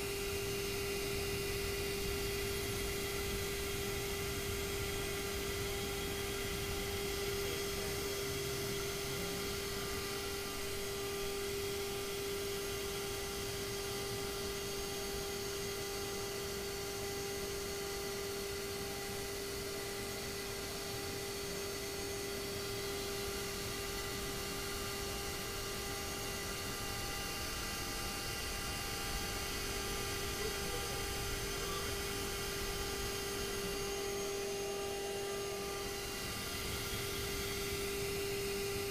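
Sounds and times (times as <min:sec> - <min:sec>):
router motor whine: 0:00.0 - 0:38.9.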